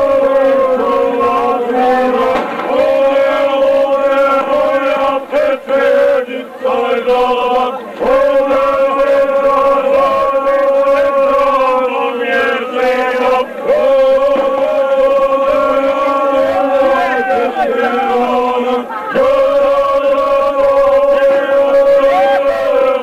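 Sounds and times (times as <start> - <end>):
men singing a chant: 0.0 - 23.0.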